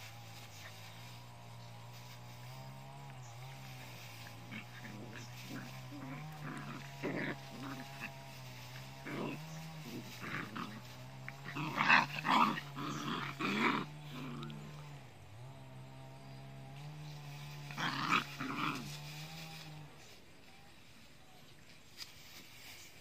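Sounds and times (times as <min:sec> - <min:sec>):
small dogs growling: 0:00.0 - 0:20.2.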